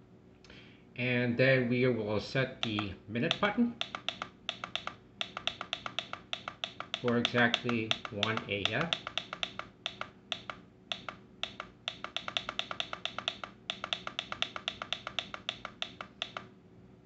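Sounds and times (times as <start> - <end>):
rapid plastic button clicks: 2.6 - 16.5.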